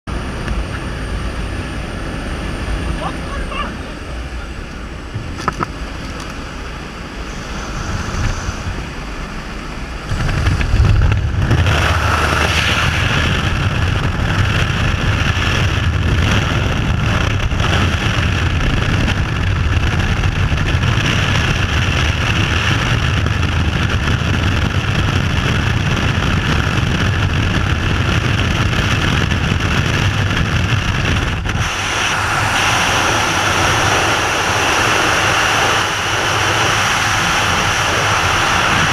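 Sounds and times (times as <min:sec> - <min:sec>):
propeller engine drone: 0:00.0 - 0:38.9
rushing freefall wind: 0:00.1 - 0:38.9
wind noise on microphone: 0:00.1 - 0:38.9.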